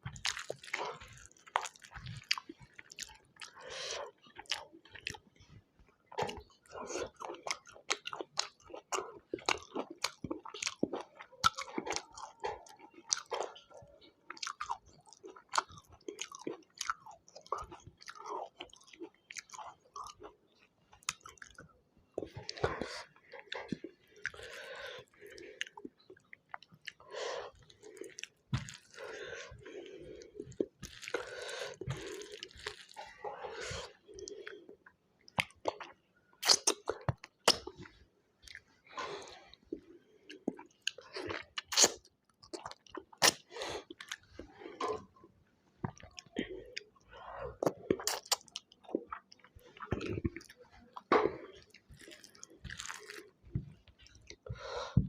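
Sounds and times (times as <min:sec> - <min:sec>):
person chewing food: 0:00.0 - 0:45.2, 0:45.8 - 0:55.0.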